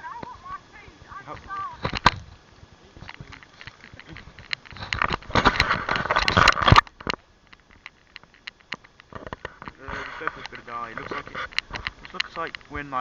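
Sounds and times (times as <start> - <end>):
rustling and crinkling: 0.0 - 13.0.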